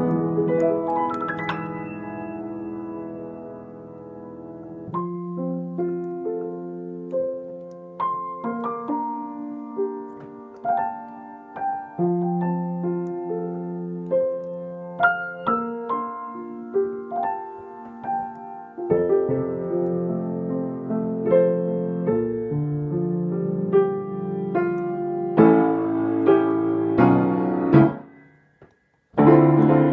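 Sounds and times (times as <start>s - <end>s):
slow solo piano music: 0.0s - 28.4s, 29.1s - 29.9s.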